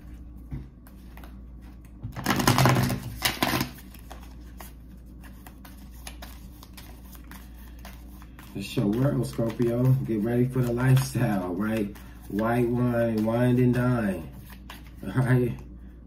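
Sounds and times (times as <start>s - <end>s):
cards being shuffled: 0.1s - 15.6s.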